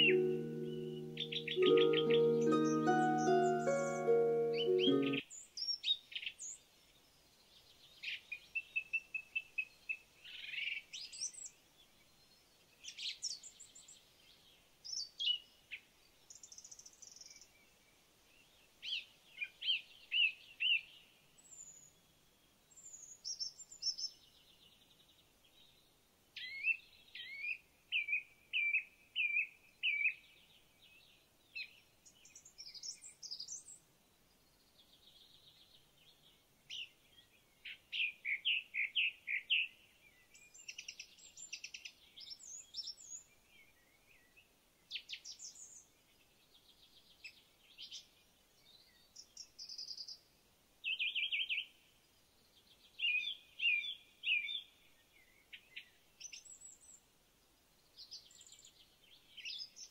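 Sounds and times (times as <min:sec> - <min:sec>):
songbirds singing: 0:00.0 - 0:06.6, 0:07.5 - 0:59.9.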